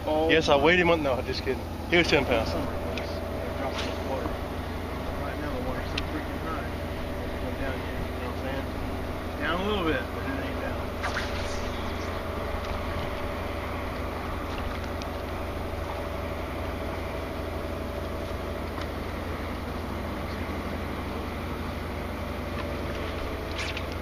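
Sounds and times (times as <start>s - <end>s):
electric motor hum: 0.7s - 21.5s.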